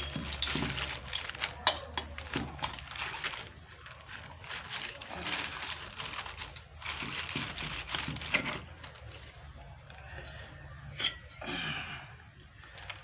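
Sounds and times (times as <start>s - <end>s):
scraping and rustling of parts: 0.0s - 11.4s, 12.2s - 13.0s.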